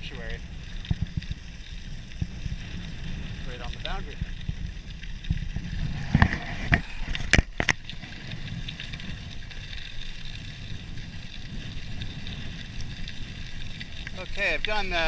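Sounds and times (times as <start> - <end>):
bicycle tyres rolling on gravel: 0.0 - 15.0
wind rumbling on microphone: 0.0 - 15.0.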